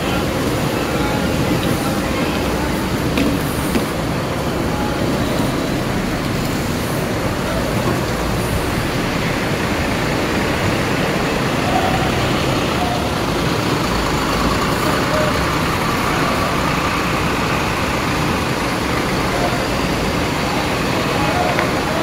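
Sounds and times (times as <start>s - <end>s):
bus diesel engine passing: 0.0s - 22.0s.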